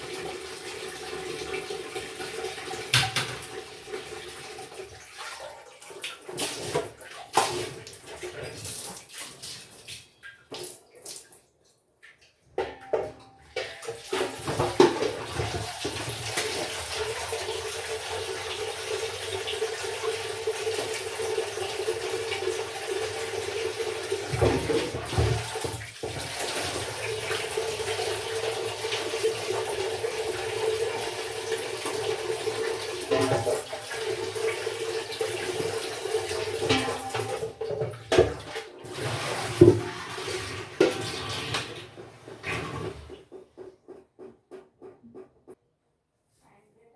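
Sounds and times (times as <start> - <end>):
tap water running into sink: 0.0 - 11.3, 12.5 - 44.9.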